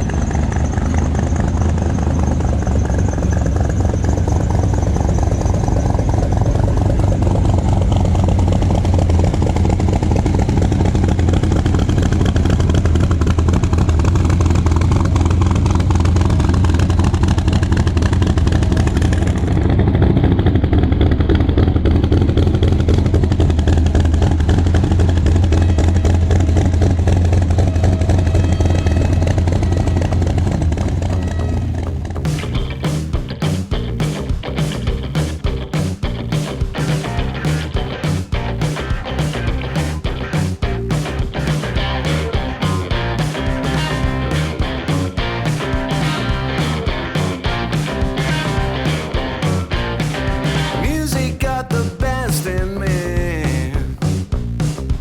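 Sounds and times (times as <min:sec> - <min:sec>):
vehicle engine humming steadily: 0:00.0 - 0:55.0.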